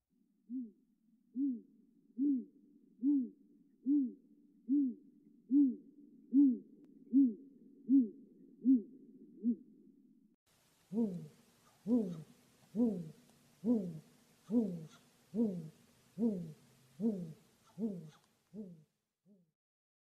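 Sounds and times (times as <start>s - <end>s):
owl hooting: 1.4s - 9.6s, 10.8s - 19.5s.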